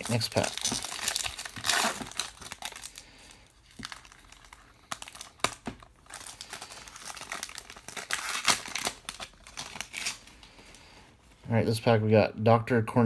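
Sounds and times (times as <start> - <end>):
wrapper crinkling and tearing: 0.0 - 10.8.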